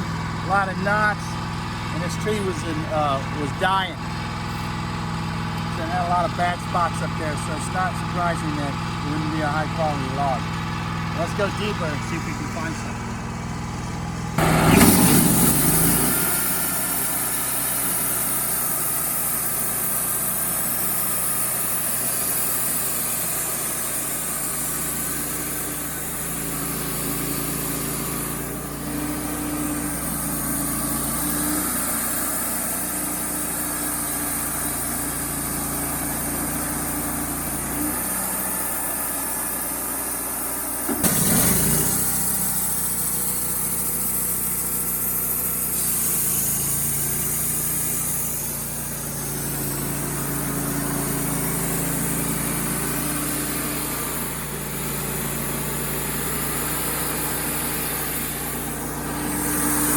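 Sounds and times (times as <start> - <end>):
band sawmill sawing log: 0.0 - 59.9.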